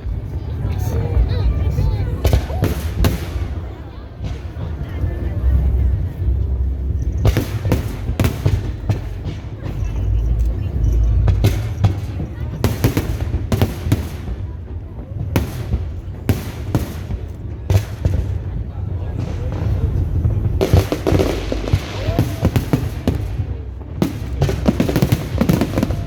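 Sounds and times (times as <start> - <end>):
fireworks bangs: 0.0 - 26.0
steady low rumble: 0.0 - 26.0.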